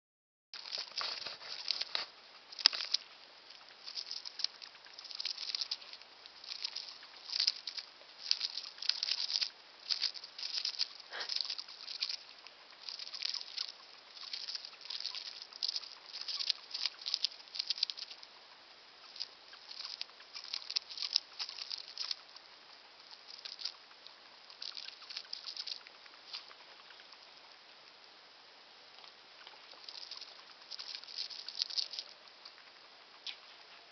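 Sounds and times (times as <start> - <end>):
hamster crunching food: 0.6 - 27.5, 28.9 - 33.7.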